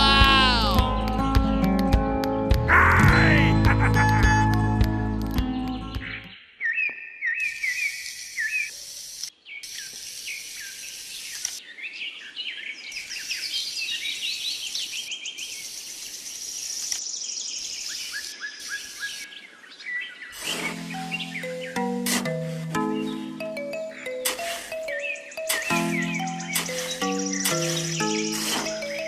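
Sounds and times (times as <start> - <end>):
small birds chirping: 3.9 - 29.0.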